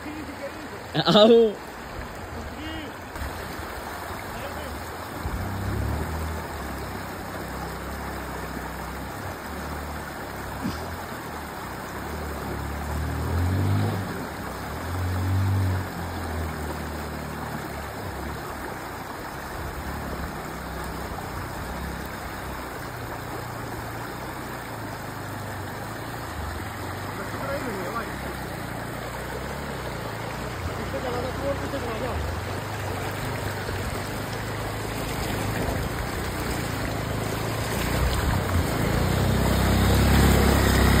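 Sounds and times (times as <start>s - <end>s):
river flowing: 0.0s - 41.0s
vehicle engine running: 3.2s - 41.0s.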